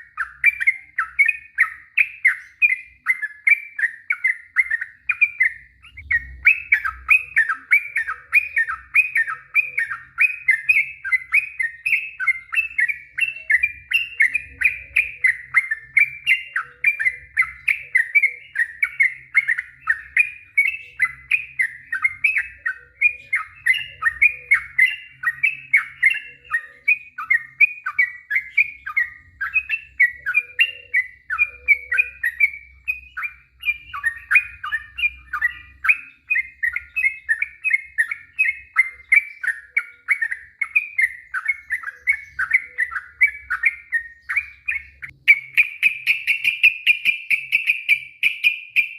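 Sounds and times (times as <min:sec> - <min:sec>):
bird singing chattering notes: 0:00.0 - 0:48.9.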